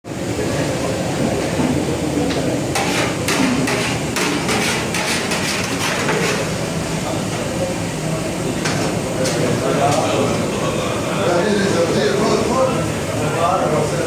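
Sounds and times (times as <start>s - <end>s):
steady background noise: 0.1s - 14.0s.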